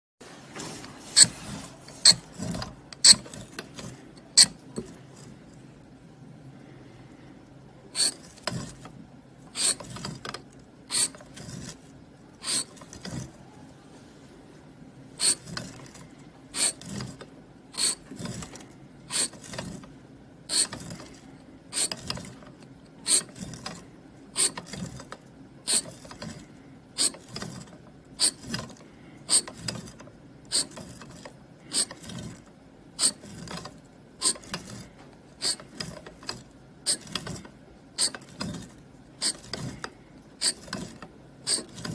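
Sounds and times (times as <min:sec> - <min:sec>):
scraping tool scratching metal: 0:01.0 - 0:05.3, 0:08.0 - 0:08.9, 0:09.5 - 0:13.4, 0:15.2 - 0:19.9, 0:20.5 - 0:25.1, 0:25.7 - 0:41.9.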